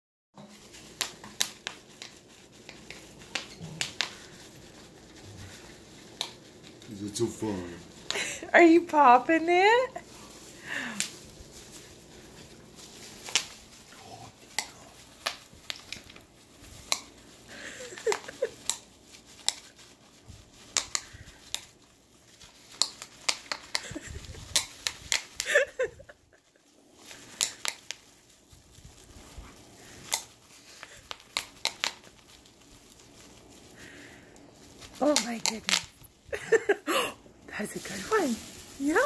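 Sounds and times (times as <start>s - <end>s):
bubble wrap popping: 0.4s - 39.0s
plastic crinkling: 0.4s - 39.0s.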